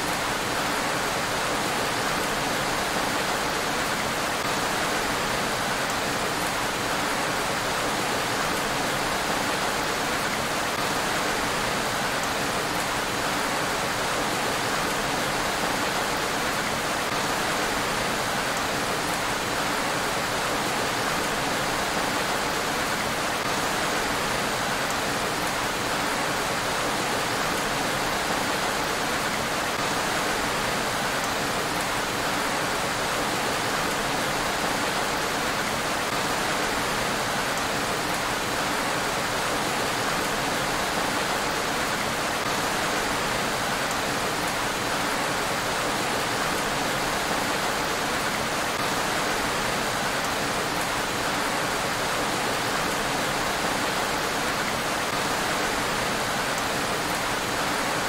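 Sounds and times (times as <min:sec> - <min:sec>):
rain falling on a road: 0:00.0 - 0:58.0.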